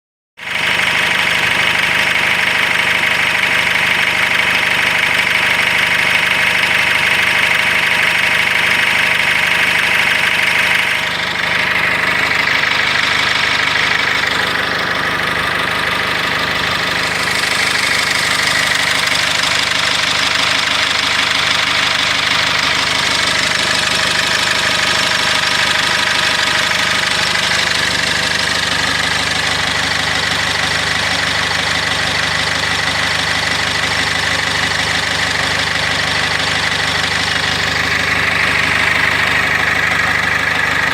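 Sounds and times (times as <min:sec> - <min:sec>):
diesel van engine idling: 0:00.4 - 0:40.9.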